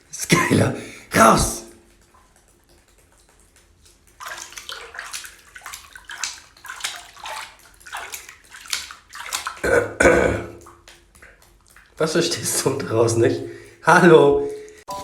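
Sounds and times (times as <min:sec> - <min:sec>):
water splashing: 0:00.0 - 0:14.8.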